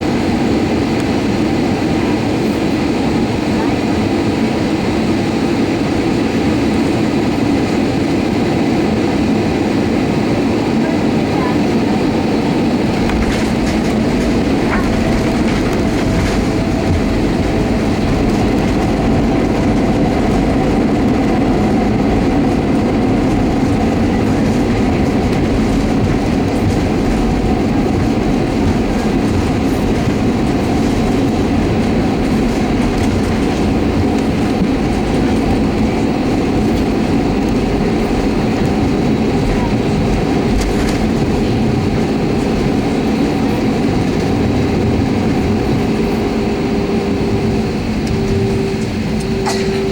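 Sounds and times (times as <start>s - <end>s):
jet engines rumbling: 0.0s - 49.9s.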